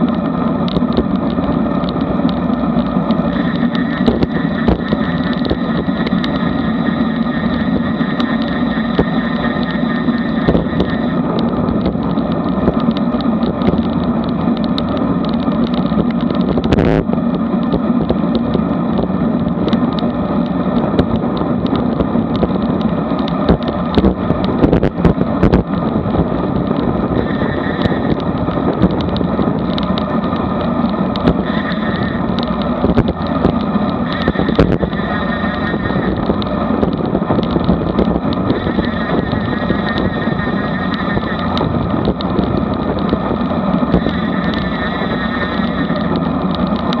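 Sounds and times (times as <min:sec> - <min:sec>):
bike clicks and rattles: 0:00.0 - 0:47.0
road noise: 0:00.0 - 0:47.0
wind rush: 0:00.0 - 0:47.0.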